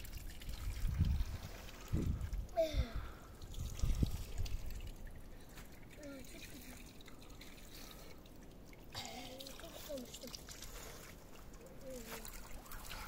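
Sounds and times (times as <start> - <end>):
fountain water trickling: 0.0 - 13.0.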